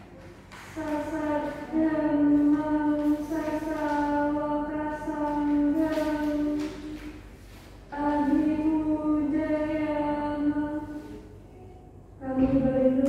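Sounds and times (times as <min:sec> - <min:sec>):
woman chanting: 0:00.7 - 0:07.3, 0:07.9 - 0:13.0.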